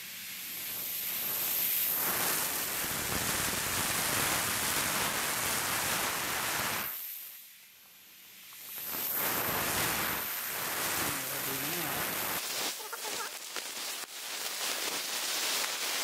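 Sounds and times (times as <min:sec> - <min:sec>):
rushing hiss of broad noise: 0:00.0 - 0:16.0.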